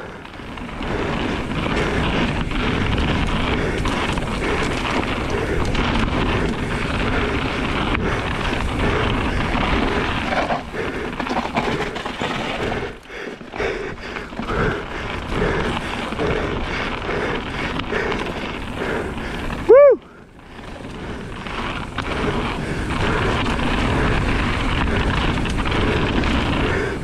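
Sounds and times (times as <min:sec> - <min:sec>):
mountain bike rattling: 0:00.0 - 0:27.0.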